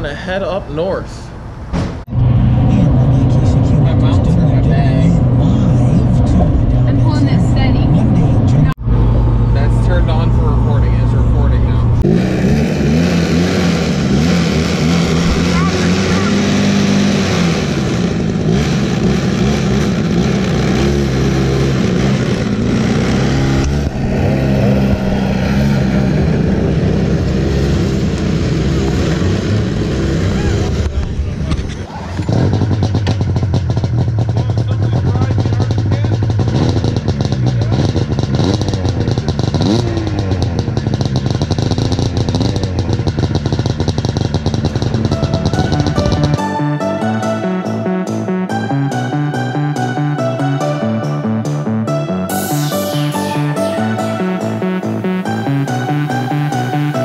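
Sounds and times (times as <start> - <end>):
snowmobile engine running: 2.7 - 57.0.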